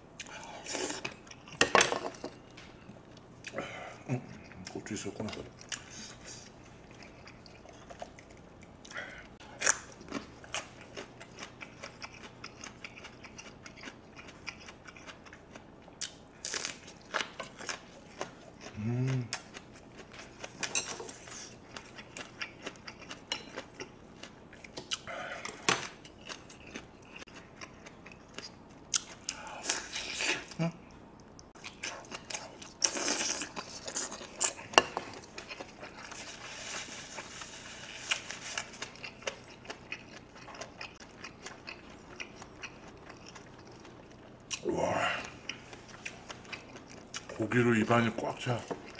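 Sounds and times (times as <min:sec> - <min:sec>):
person chewing: 0:00.2 - 0:01.6, 0:02.3 - 0:47.5, 0:48.6 - 0:48.9.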